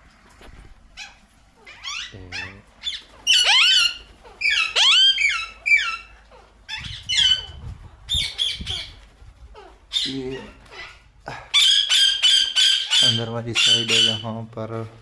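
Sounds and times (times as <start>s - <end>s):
parakeet squawking: 1.0s - 14.4s.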